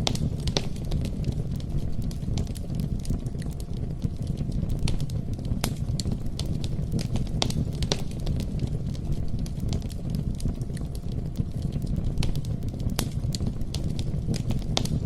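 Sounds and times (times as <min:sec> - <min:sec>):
campfire flames rumbling: 0:00.0 - 0:15.0
fire crackling and popping: 0:00.0 - 0:15.0.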